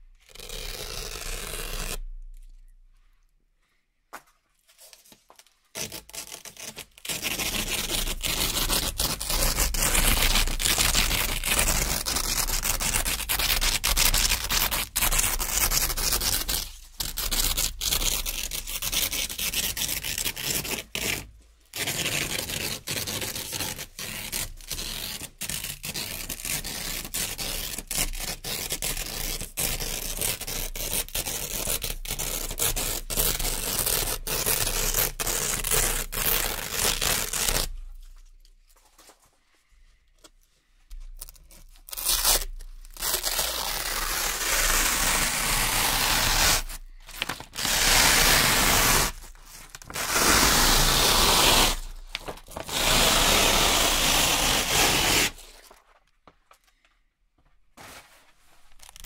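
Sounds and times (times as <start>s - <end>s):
velcro strips ripping apart: 0.2s - 2.4s, 5.4s - 37.8s, 41.1s - 55.8s, 58.7s - 59.0s.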